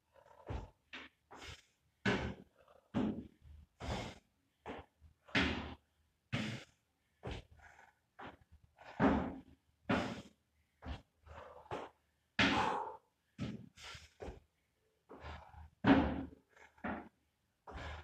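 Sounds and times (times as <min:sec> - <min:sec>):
man breathing heavily: 0:00.0 - 0:18.0.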